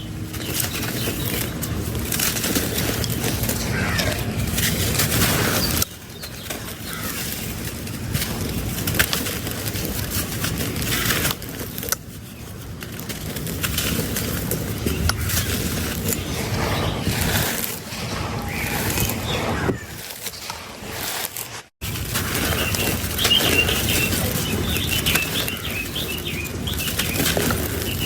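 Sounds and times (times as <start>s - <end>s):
dried cement crumbling: 0.0s - 28.0s.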